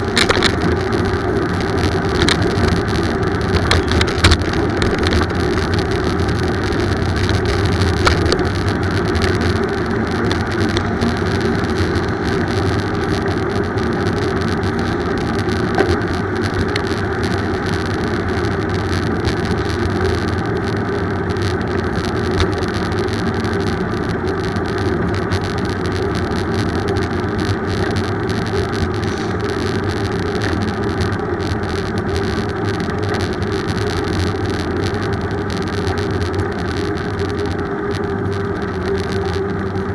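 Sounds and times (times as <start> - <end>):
bicycle road noise: 0.0 - 39.9
small clicks and rattles: 0.0 - 39.9.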